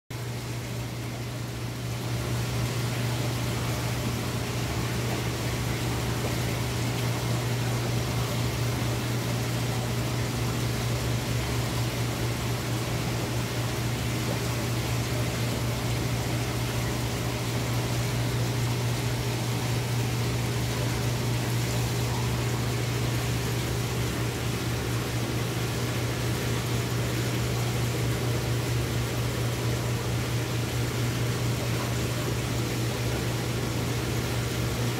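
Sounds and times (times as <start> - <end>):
aquarium pumps humming: 0.1 - 34.9.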